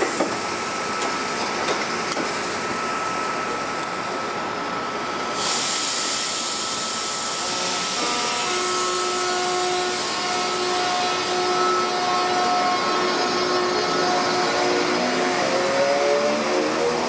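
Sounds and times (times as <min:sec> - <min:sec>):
electric train rushing past: 0:00.0 - 0:17.0
train whining tones: 0:00.0 - 0:17.0.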